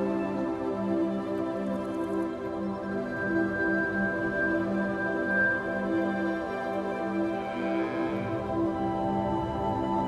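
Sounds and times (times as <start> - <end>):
soft ambient music: 0.0 - 10.0.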